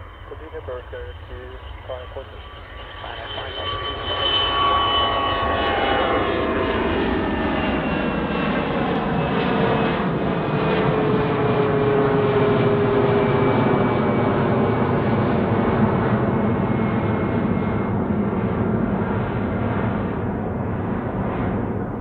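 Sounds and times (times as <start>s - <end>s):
jet roar with whining tones: 0.0s - 22.0s.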